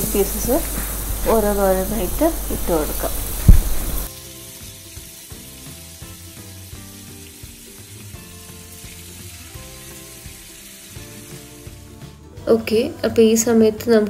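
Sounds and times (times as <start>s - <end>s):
chicken sizzling in hot oil: 0.0s - 12.3s
quiet background music: 0.0s - 14.0s.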